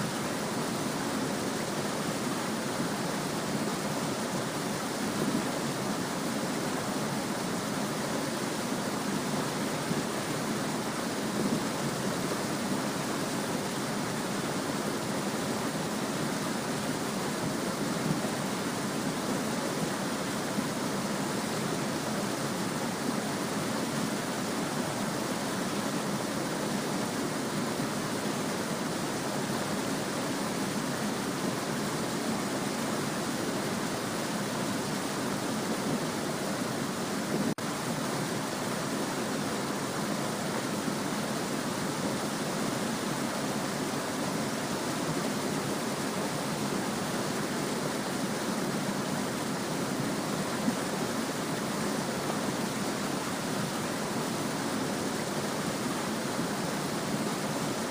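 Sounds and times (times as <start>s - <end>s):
stream babbling: 0.0s - 57.9s.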